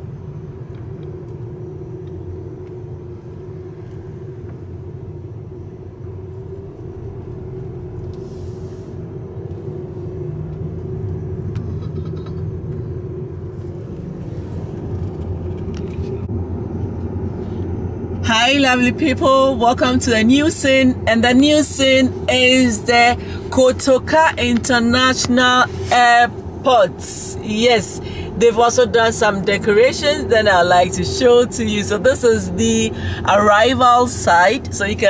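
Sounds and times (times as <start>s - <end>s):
car road noise rumble: 0.0s - 35.0s
faint steady hum: 0.0s - 35.0s.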